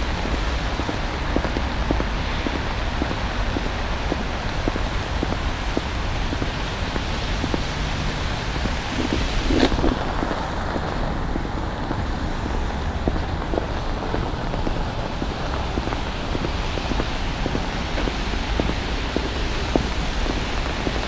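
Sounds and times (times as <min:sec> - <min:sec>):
rain and sleet falling: 0:00.0 - 0:21.0.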